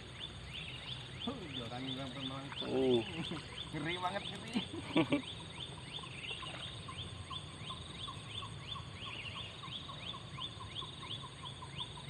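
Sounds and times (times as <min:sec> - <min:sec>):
animal call with rising chirps: 0:00.0 - 0:12.0.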